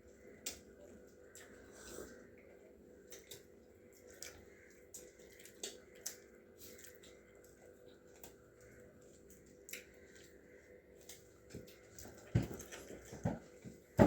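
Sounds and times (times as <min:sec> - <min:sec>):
low steady hum: 0:00.0 - 0:14.0
person chewing food: 0:00.0 - 0:14.0.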